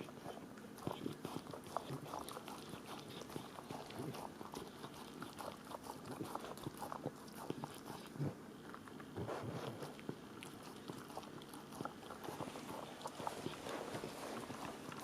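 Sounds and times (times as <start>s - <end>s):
dog chewing and clicking: 0.0s - 15.0s.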